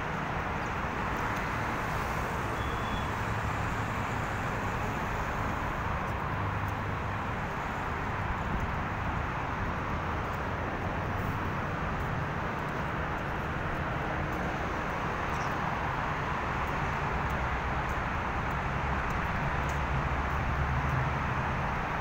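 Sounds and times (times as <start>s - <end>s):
city road traffic hum: 0.0s - 22.0s.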